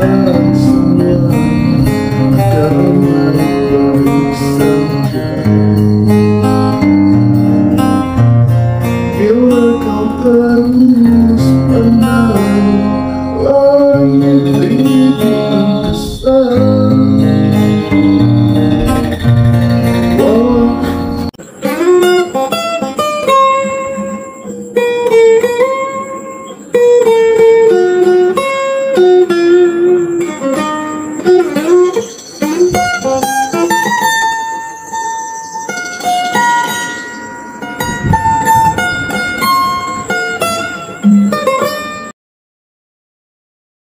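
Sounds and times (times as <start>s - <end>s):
acoustic guitar playing: 0.0s - 42.2s.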